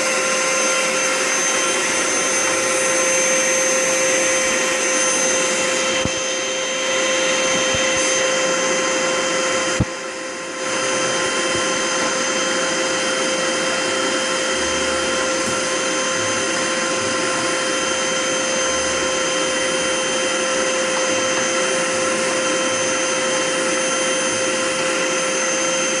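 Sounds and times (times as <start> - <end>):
vacuum cleaner motor whine: 0.0 - 26.0.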